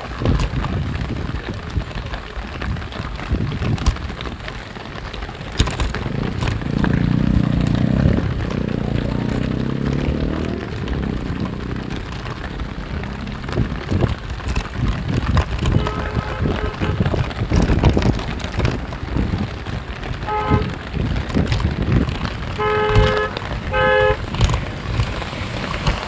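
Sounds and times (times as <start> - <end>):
crackles: 0.0 - 26.0
steady rushing noise: 0.0 - 26.0
motor engine hum: 2.8 - 26.0.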